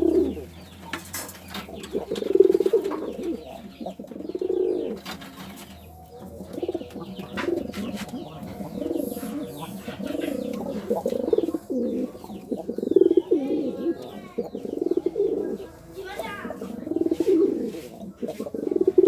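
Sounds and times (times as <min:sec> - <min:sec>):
pigeon cooing: 0:00.0 - 0:19.0.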